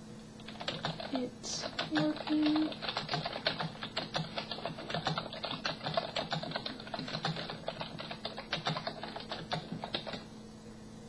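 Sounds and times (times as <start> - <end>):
computer keyboard typing: 0.4 - 10.3.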